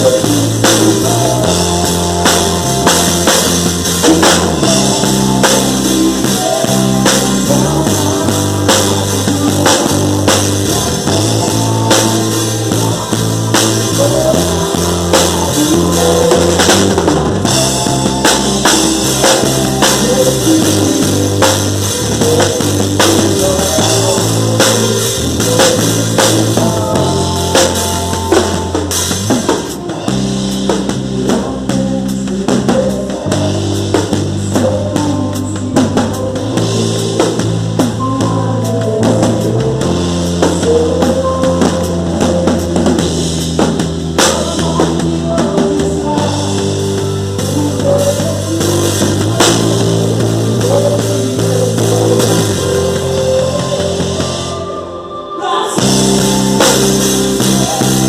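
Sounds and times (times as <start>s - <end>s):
drum kit: 0.0s - 58.0s
sustained bass notes: 0.0s - 58.0s.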